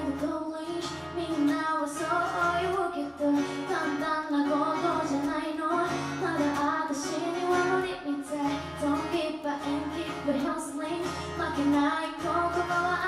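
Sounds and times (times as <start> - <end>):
acoustic guitar chords: 0.0 - 13.0
woman singing pop song: 0.0 - 13.0.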